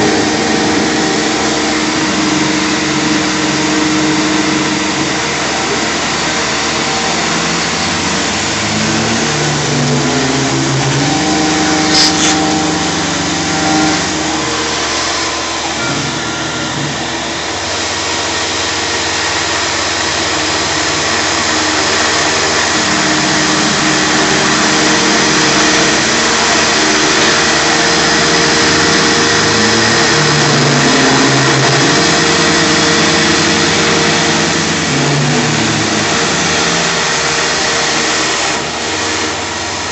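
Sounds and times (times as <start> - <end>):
machine motors humming: 0.0 - 39.9
shop vacuum running: 0.0 - 39.9.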